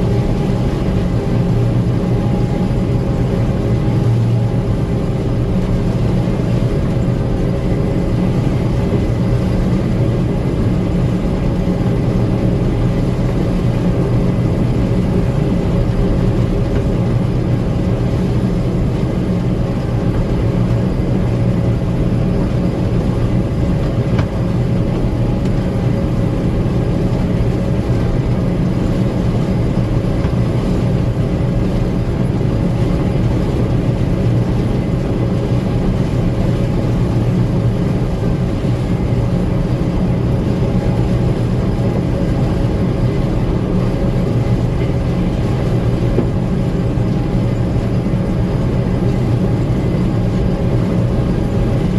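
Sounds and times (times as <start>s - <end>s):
combine engine drone: 0.0s - 51.9s.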